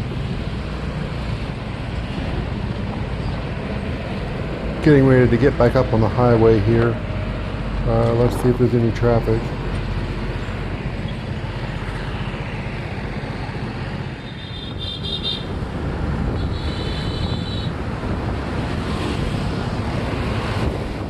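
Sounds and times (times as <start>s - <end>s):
road and traffic noise: 0.0s - 21.0s
wind rushing over microphone: 0.0s - 21.0s.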